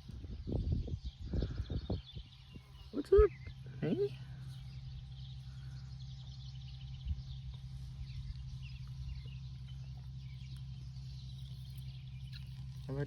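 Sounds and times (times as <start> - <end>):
faint bird chirps: 0.0 - 13.0
steady low hum: 0.0 - 13.0.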